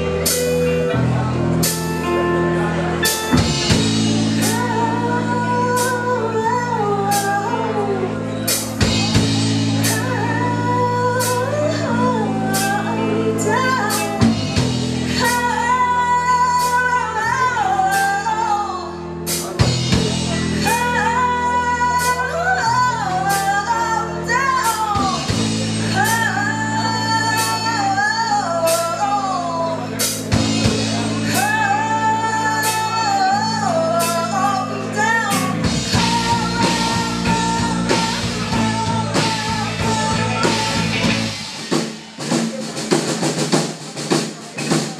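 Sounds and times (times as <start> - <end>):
electric guitars: 0.0 - 43.8
bass: 0.0 - 44.9
drum kit: 0.0 - 44.9
woman singing: 3.1 - 19.7, 20.3 - 41.9.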